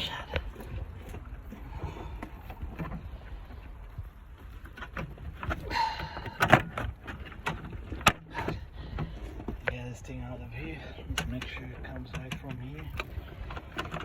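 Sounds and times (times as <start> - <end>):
car parts clicking and scraping: 0.0 - 14.0.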